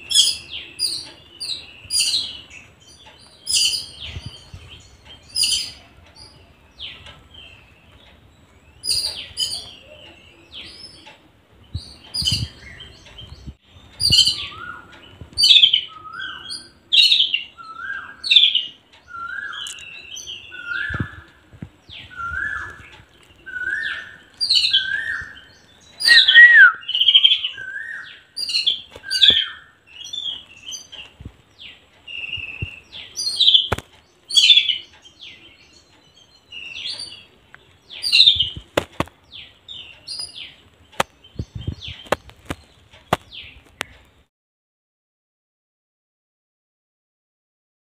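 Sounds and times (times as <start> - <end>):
sparrows chirping: 0.0 - 44.2.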